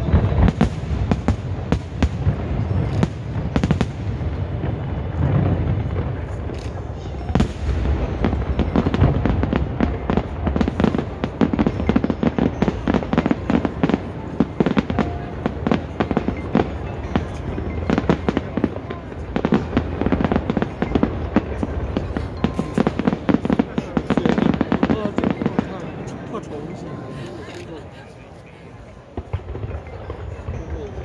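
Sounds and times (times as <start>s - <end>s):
rapid firework crackling: 0.0s - 26.5s.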